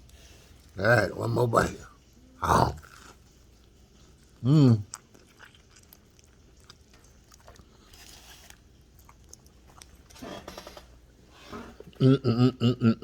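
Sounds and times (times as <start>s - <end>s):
chewing crunchy bread: 0.0s - 12.0s.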